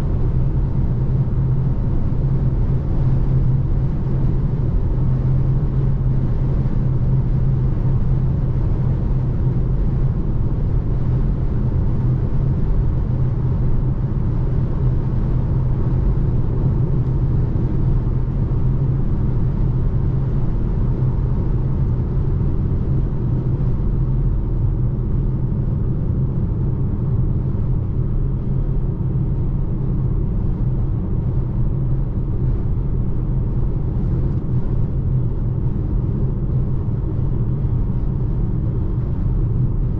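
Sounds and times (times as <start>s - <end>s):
constant low hum: 0.0s - 39.9s
road and tyre noise in car cabin: 0.0s - 39.9s.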